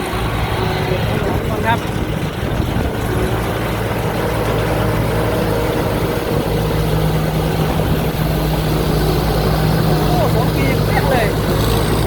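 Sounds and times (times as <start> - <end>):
diesel engine running under load: 0.0 - 12.0
harvesting machinery noise: 0.0 - 12.0.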